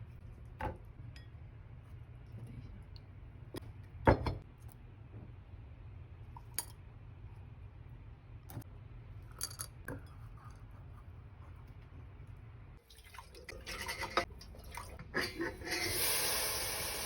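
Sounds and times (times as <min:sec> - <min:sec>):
low steady hum: 0:00.0 - 0:15.8.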